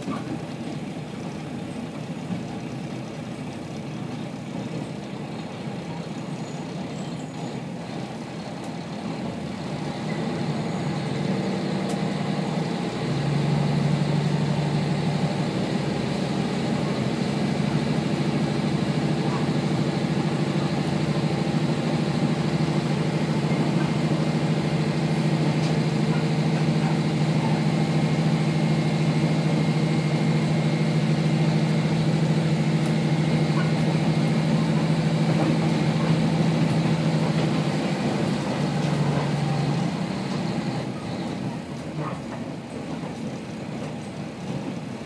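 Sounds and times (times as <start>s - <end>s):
diesel railcar engine running: 0.0s - 45.0s.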